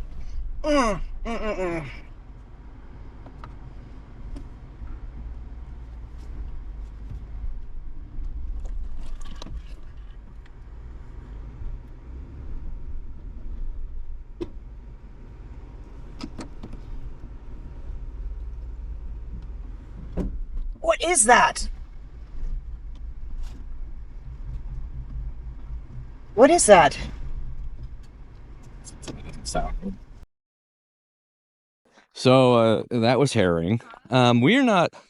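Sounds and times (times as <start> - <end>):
engine and drivetrain rumble: 0.0 - 30.2.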